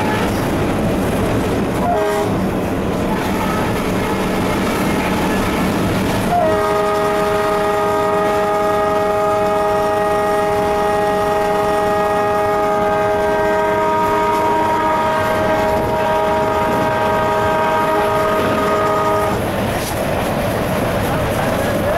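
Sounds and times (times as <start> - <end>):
locomotive air horn blast: 0.0 - 0.6, 1.8 - 2.4, 3.1 - 19.4
engine and wheels rumbling: 0.0 - 21.9.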